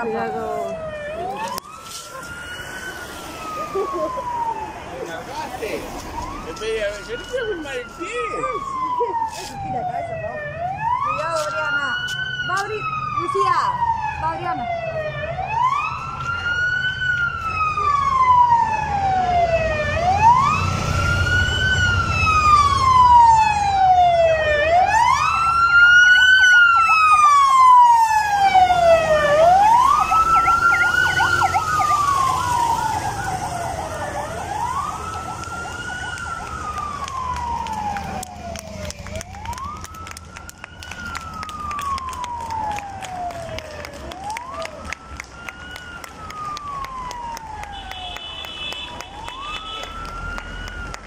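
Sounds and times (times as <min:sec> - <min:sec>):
police siren wailing: 0:00.0 - 0:51.0.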